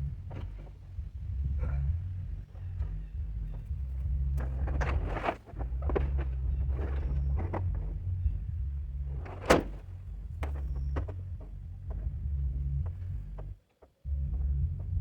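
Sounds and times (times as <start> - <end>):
low machine rumble: 0.0 - 15.0.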